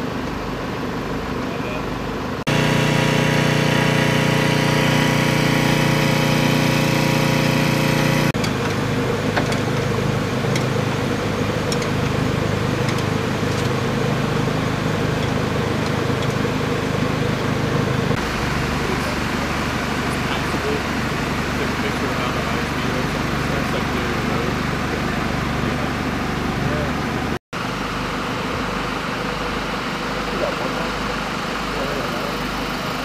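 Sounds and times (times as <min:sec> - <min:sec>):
engine humming steadily: 0:00.0 - 0:33.0
military vehicle engine running: 0:00.0 - 0:33.0.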